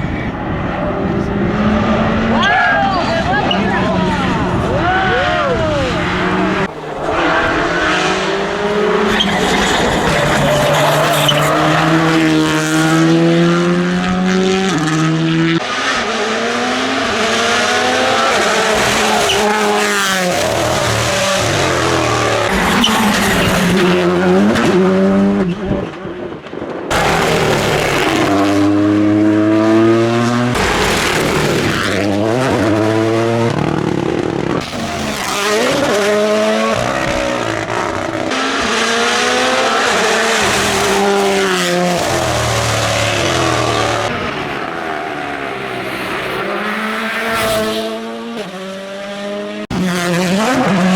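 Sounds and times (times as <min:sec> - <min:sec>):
rally car engines revving high: 0:00.0 - 0:50.9.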